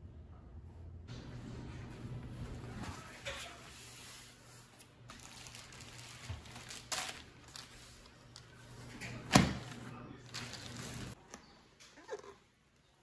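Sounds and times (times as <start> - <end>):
rustling and handling noises: 1.7 - 12.9.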